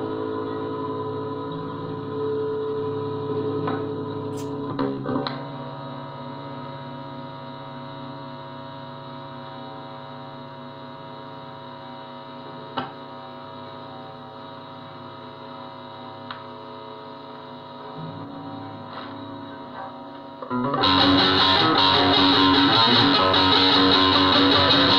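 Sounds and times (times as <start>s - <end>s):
guitar amplifier hum and buzz: 0.0s - 24.9s.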